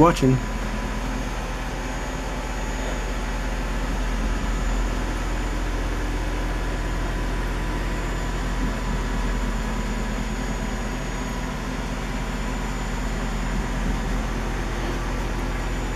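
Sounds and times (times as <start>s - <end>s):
low mechanical hum: 0.0s - 15.9s.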